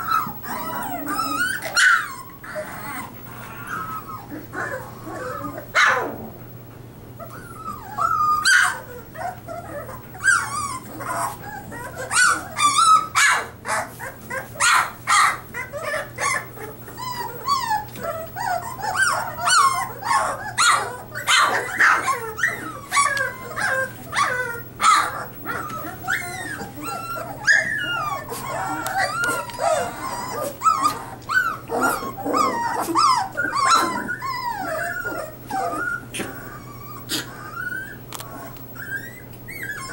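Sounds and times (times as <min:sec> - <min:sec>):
puppies whimpering and yipping: 0:00.0 - 0:39.9.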